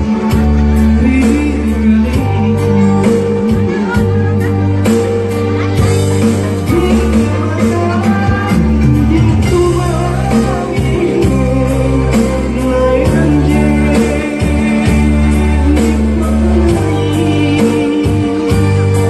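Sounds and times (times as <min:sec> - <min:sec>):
person singing with band: 0:00.0 - 0:19.0.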